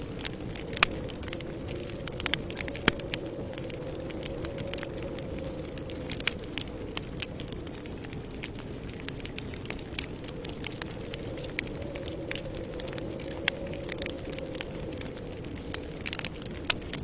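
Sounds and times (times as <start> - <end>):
campfire crackling: 0.0 - 17.0
low rush of burning: 0.0 - 17.0.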